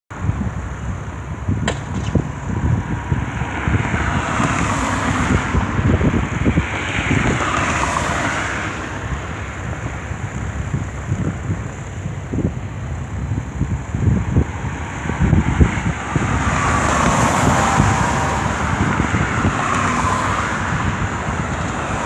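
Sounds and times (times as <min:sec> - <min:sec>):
wind buffeting microphone: 0:00.1 - 0:22.0.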